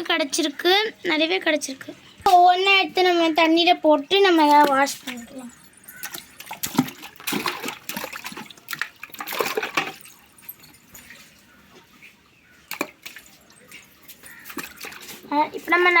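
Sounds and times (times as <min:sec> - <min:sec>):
water splashing and sloshing: 0:01.6 - 0:16.0.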